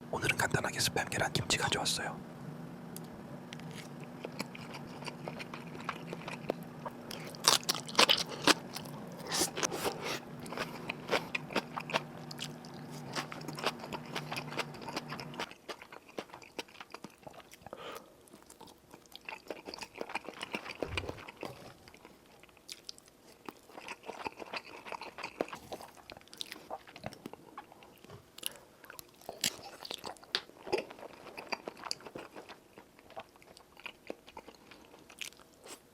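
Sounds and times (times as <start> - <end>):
low steady hum: 0.0 - 35.9
crisp biting and chewing: 3.5 - 17.7, 18.3 - 35.8.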